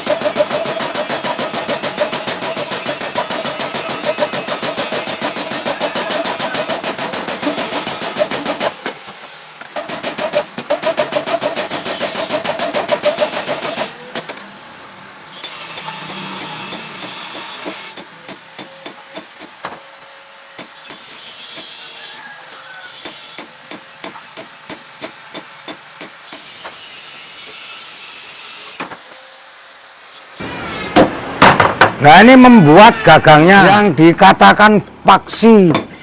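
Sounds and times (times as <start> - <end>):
workshop machine whirring: 0.0 - 36.0.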